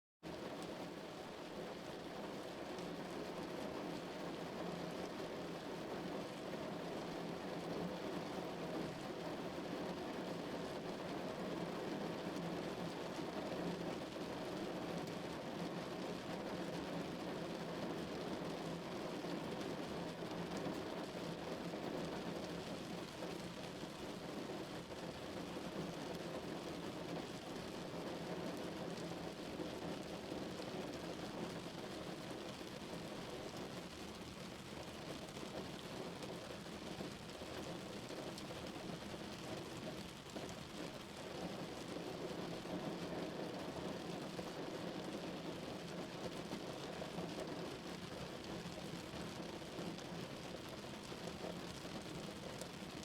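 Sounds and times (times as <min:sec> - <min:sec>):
rain drumming on a car roof: 0:00.3 - 0:53.0.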